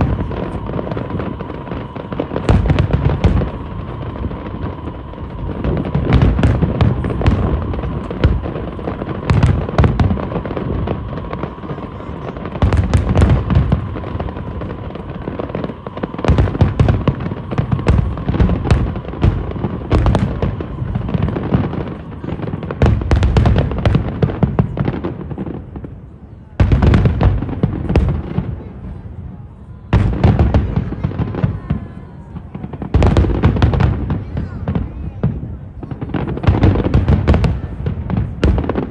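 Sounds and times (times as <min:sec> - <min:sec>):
fireworks booming and crackling: 0:00.0 - 0:38.9.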